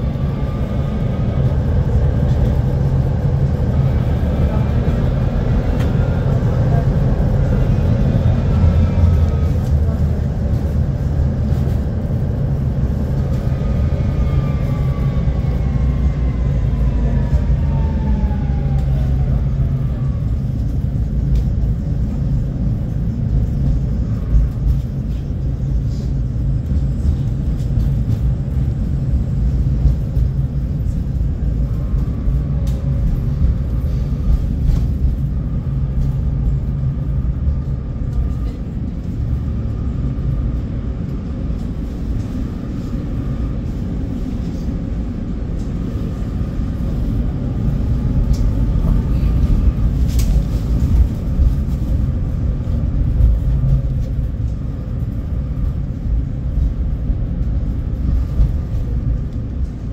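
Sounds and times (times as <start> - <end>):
tram wheels rumbling on rails: 0.0 - 59.9.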